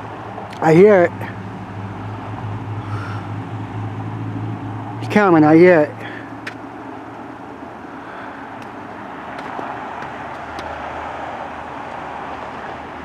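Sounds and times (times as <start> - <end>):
distant vehicles rumbling: 0.0 - 13.0.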